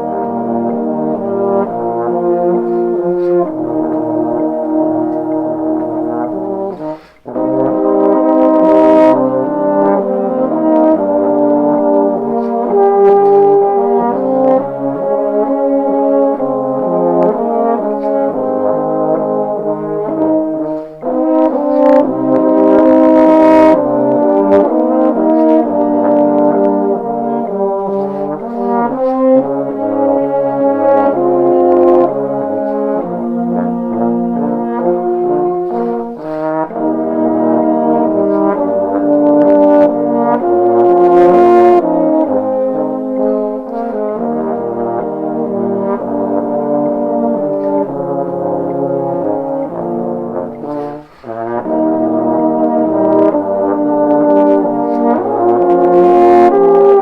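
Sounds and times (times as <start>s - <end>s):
baritone horns playing chords: 0.0s - 57.0s.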